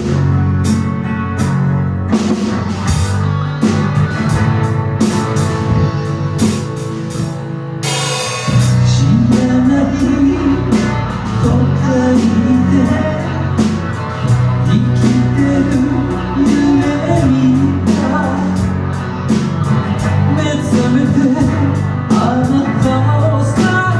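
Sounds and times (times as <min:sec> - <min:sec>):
live rock band playing: 0:00.0 - 0:23.9.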